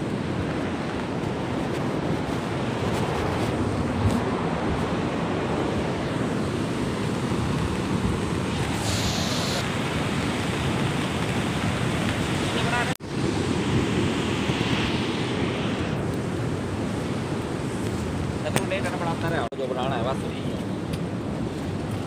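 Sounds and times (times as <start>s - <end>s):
mountain stream rushing: 0.0s - 19.5s
wind buffeting microphone: 0.0s - 22.0s.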